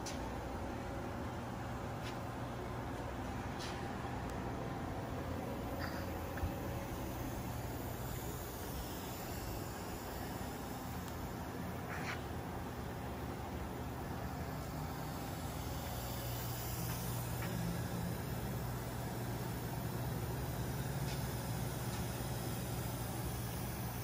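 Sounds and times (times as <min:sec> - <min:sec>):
electrical motor hum: 0:00.0 - 0:24.0.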